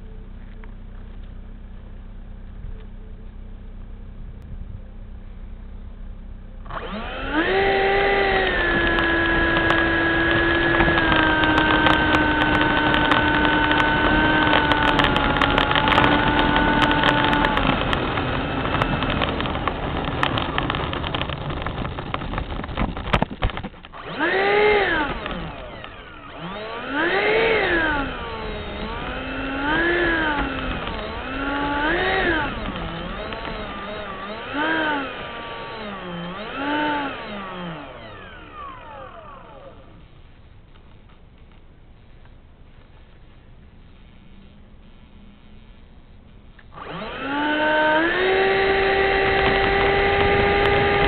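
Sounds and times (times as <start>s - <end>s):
electric ducted fan whine: 0.0s - 51.0s
clicks and handling noise: 6.7s - 43.4s, 44.0s - 51.0s.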